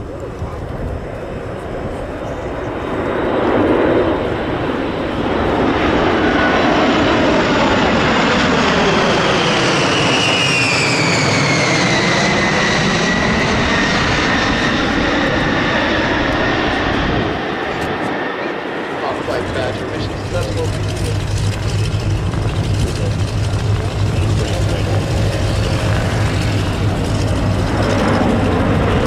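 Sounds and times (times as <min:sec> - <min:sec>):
jet aircraft passing: 0:00.0 - 0:29.0.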